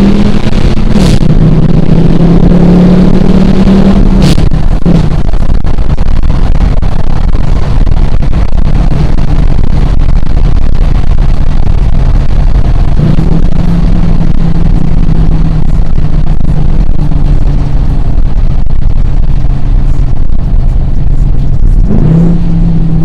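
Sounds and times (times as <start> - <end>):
car engine running: 0.0 - 23.0
road noise: 0.0 - 23.0.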